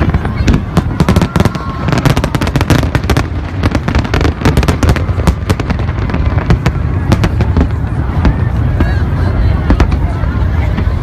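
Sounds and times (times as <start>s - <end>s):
fireworks bursting with crackle: 0.0s - 11.0s.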